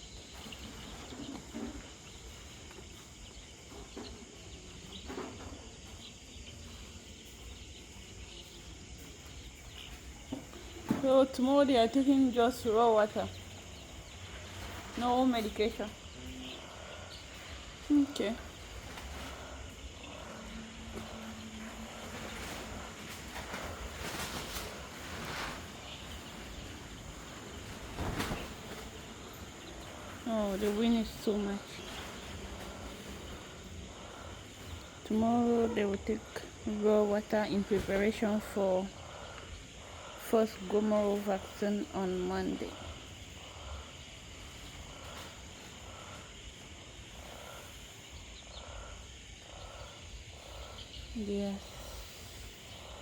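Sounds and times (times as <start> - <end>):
chicks peeping: 0.0 - 53.0
faint steady hum: 0.0 - 53.0.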